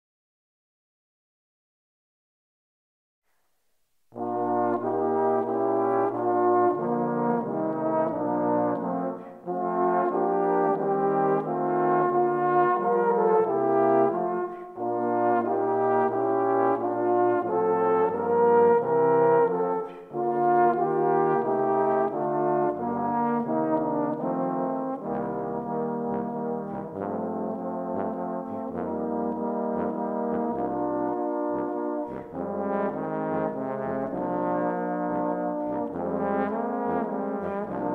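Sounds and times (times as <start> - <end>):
trombone ensemble playing: 4.1 - 37.9.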